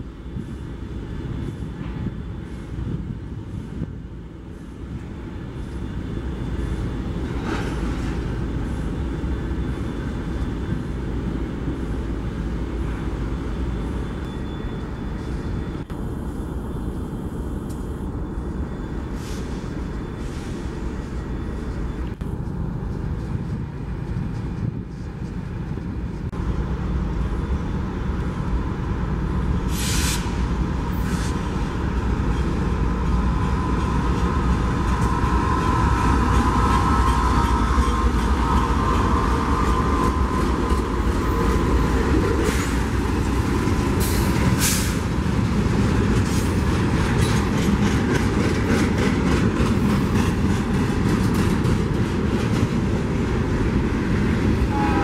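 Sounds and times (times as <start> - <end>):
freight train approaching: 0.0 - 55.0.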